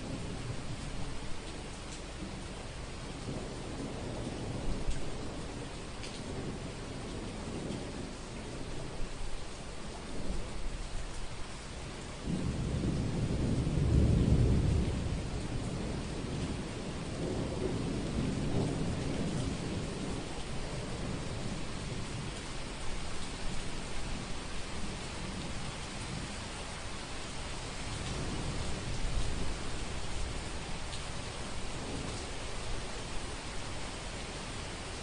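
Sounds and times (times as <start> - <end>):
low rolling thunder: 0.0 - 11.0, 11.9 - 26.5, 27.1 - 35.0
steady rain: 0.0 - 35.0.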